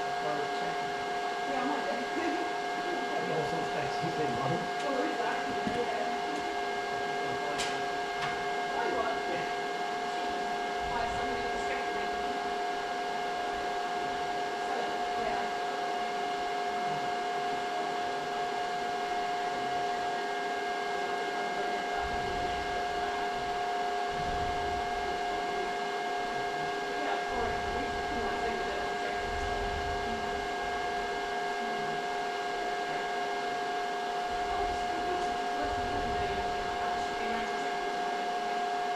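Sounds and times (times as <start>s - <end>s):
high whine: 0.0s - 38.9s.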